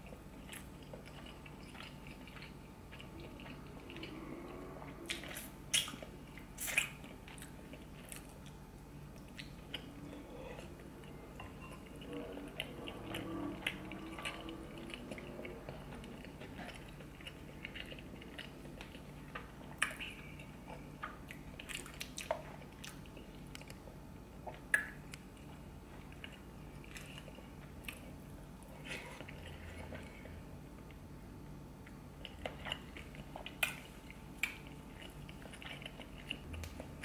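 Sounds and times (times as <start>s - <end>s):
close chewing: 0.0s - 31.0s, 31.8s - 37.0s.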